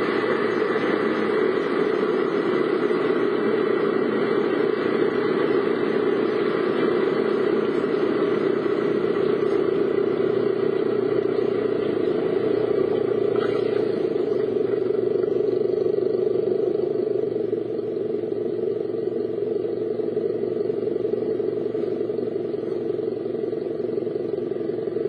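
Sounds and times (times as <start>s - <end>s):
car engine running inside car: 0.0s - 25.0s.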